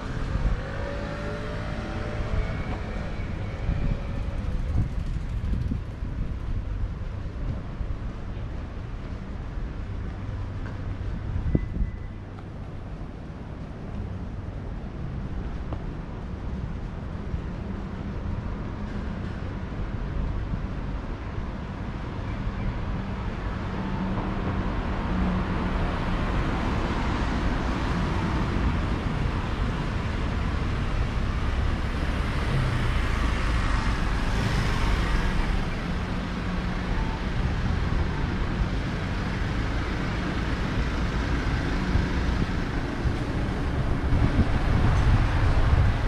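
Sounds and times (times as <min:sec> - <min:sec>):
road traffic noise: 0:00.0 - 0:46.0.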